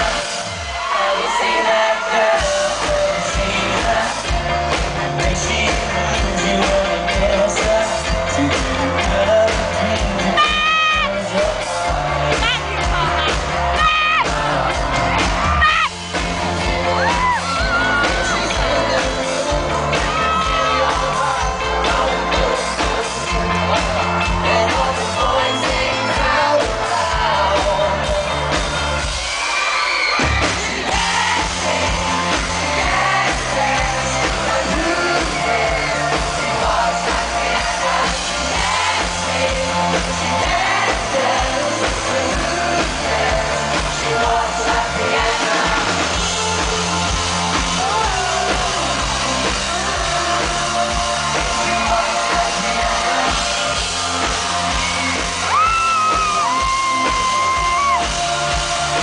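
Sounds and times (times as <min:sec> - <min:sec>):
person singing: 0:00.0 - 0:28.8, 0:30.8 - 0:59.0
live pop band over pa: 0:00.0 - 0:59.0.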